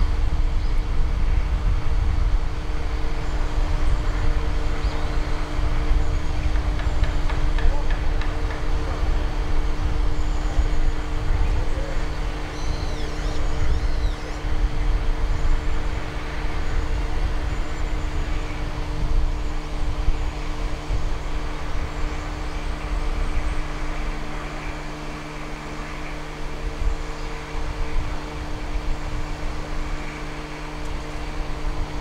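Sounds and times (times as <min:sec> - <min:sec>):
machinery humming: 0:00.0 - 0:32.0.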